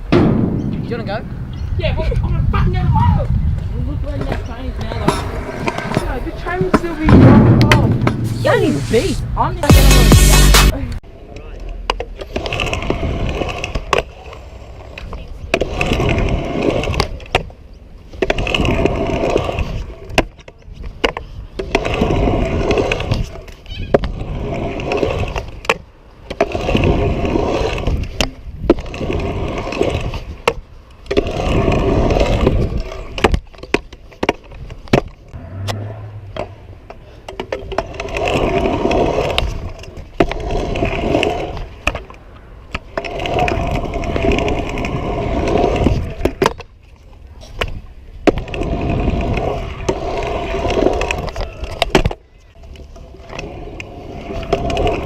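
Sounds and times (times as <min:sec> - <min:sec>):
scooter wheels rolling on hard ground: 0:00.0 - 0:09.7, 0:10.8 - 0:55.0.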